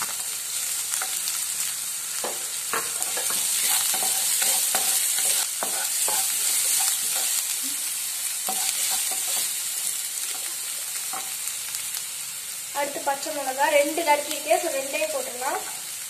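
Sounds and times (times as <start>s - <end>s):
onion sizzling in oil: 0.0s - 16.0s.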